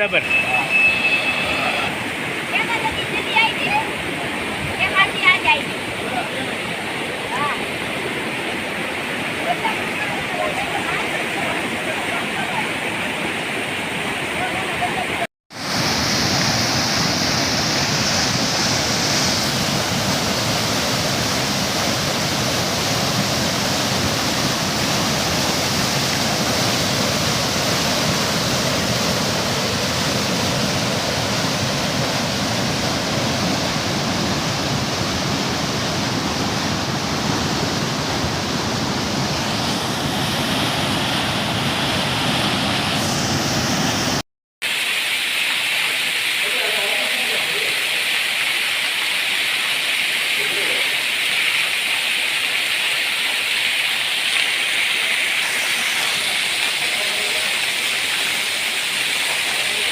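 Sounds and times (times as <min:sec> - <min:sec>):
heavy rain downpour: 0:00.0 - 0:13.3, 0:16.5 - 0:40.1, 0:44.6 - 0:59.9.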